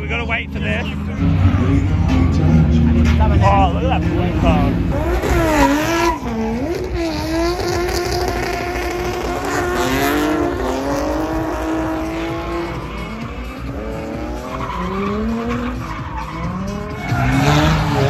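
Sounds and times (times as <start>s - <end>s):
car engine revving hard: 0.8s - 18.0s.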